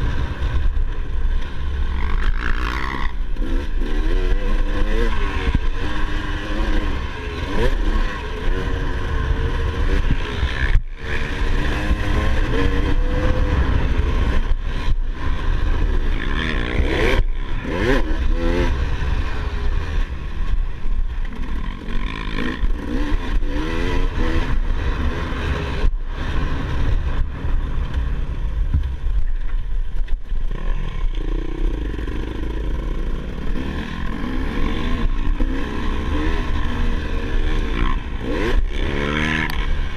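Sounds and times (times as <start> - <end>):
dirt bike engine revving: 0.0 - 27.5, 30.5 - 39.9.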